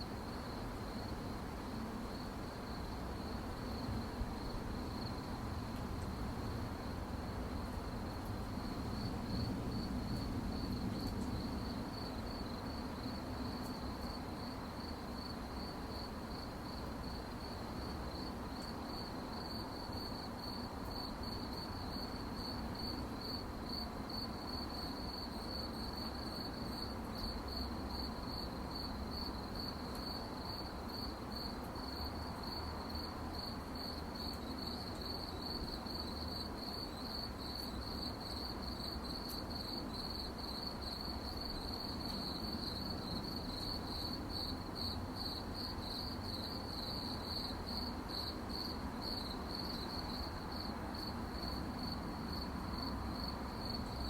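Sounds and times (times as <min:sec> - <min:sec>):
crickets chirping: 0:00.1 - 0:54.0.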